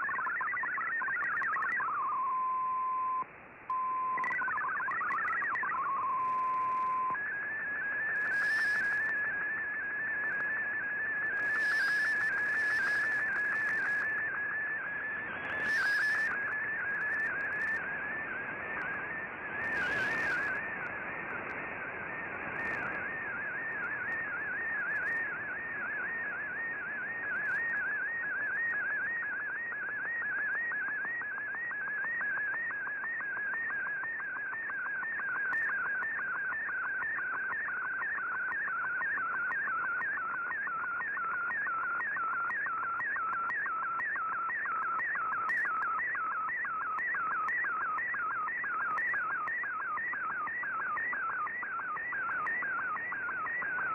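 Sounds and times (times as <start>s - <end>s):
continuous wavering tone: 0.0s - 53.9s
receiver hiss: 0.0s - 53.9s
warbling data tones: 0.0s - 53.9s.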